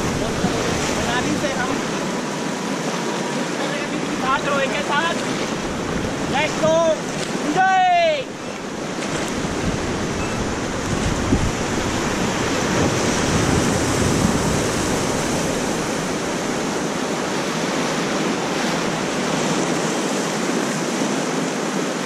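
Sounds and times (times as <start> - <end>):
river rapids rushing: 0.0 - 22.0.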